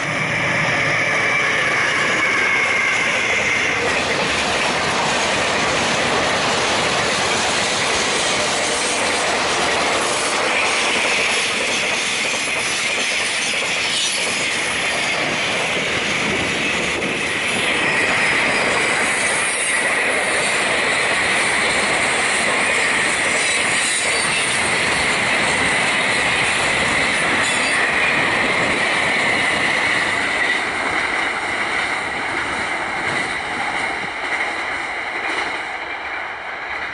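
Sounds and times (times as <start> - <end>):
freight train rolling past: 0.0 - 36.9.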